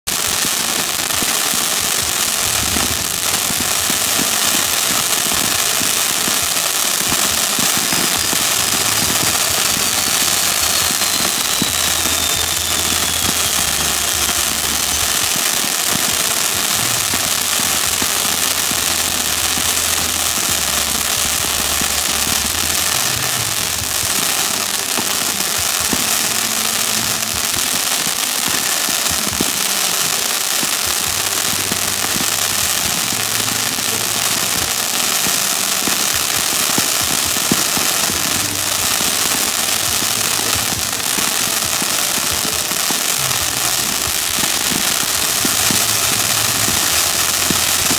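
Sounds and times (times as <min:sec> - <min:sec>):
fireworks crackling and popping: 0:00.0 - 0:47.9
descending firework whistle: 0:00.1 - 0:47.9.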